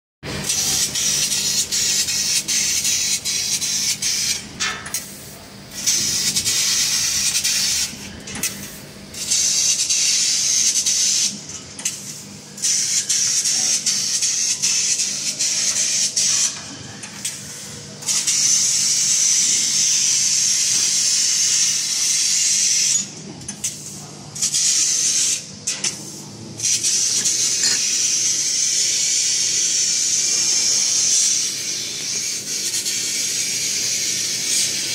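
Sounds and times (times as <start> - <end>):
laser cutter gas jet hissing: 0.3 - 34.9.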